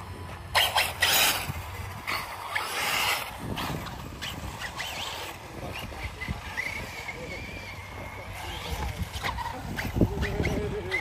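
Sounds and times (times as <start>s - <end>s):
rc cars driving with rushing noise: 0.0s - 11.0s.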